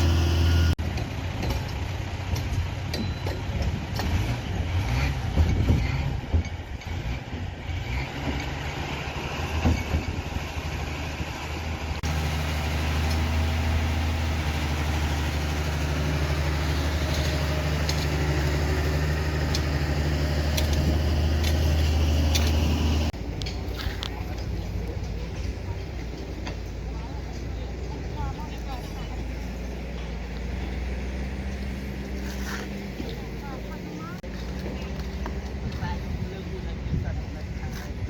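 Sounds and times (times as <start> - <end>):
diesel engine running: 0.0 - 2.9, 8.6 - 38.0.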